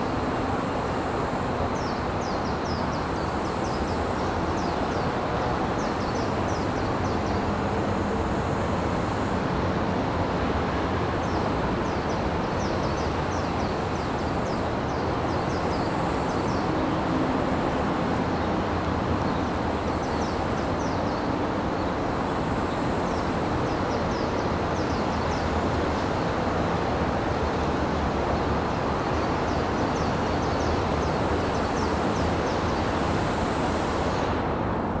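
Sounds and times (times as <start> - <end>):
distant city traffic hum: 0.0 - 35.0.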